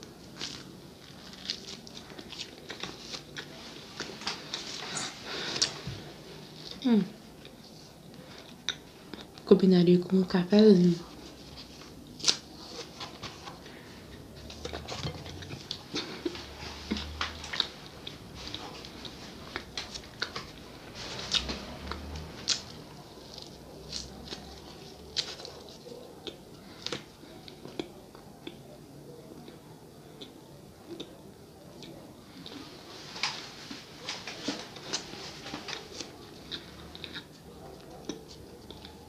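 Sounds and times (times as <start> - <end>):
biting and chewing bread: 0.0 - 9.4, 11.1 - 28.7, 33.2 - 39.0.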